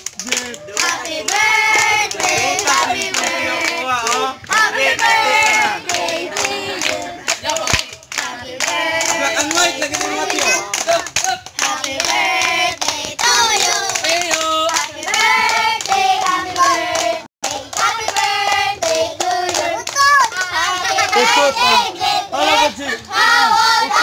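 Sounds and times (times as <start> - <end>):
hands clapping: 0.0 - 21.5
group singing: 0.3 - 24.0.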